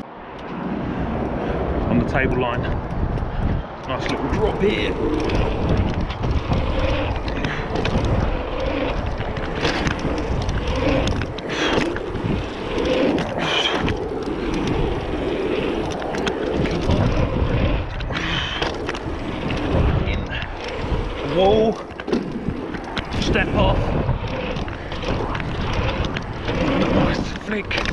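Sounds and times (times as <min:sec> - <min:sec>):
bike clicks and rattles: 0:00.0 - 0:27.9
bike tyres rumbling on dirt: 0:00.0 - 0:27.9
wind buffeting microphone: 0:00.0 - 0:27.9.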